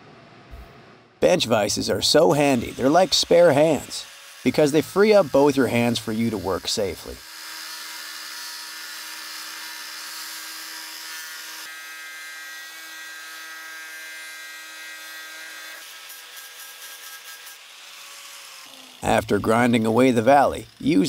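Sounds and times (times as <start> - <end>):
angle grinder on steel: 1.5 - 21.0.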